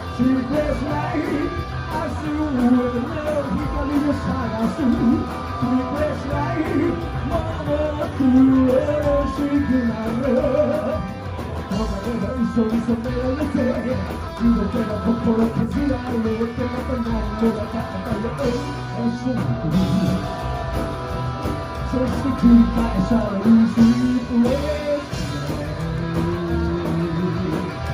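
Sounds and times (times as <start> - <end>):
rock band music: 0.0 - 27.9
wavering guitar melody: 0.0 - 27.9.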